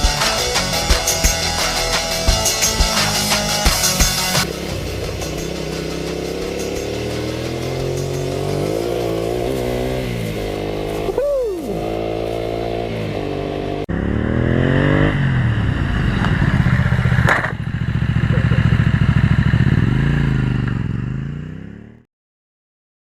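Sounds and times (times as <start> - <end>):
motorcycle engine revving: 0.0 - 22.1.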